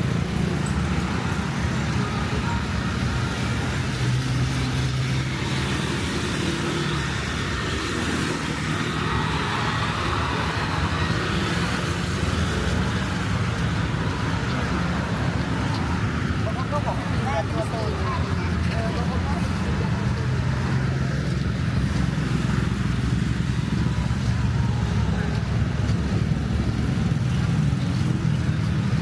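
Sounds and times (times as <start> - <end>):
road traffic: 0.0 - 29.0.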